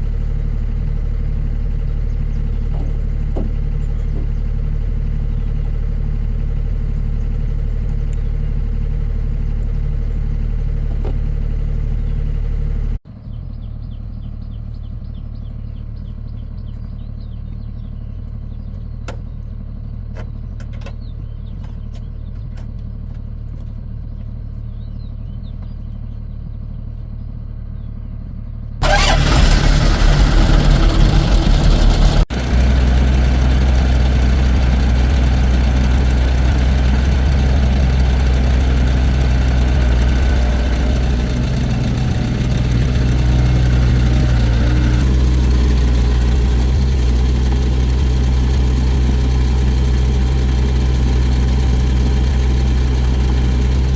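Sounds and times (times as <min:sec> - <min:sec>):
large engine humming low: 0:00.0 - 0:53.9
loud engine pulsing: 0:00.0 - 0:53.9.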